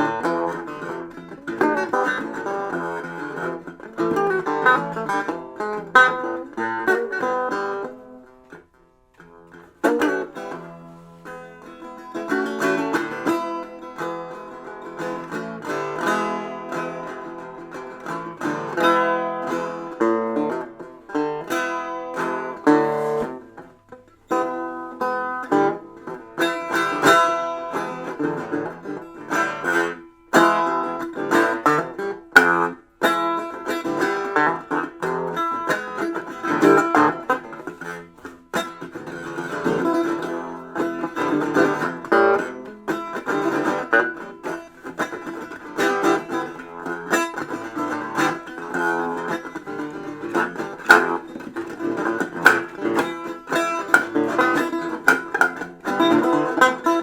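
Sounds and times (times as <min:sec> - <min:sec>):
plucked guitar-like strings: 0:00.0 - 0:57.0.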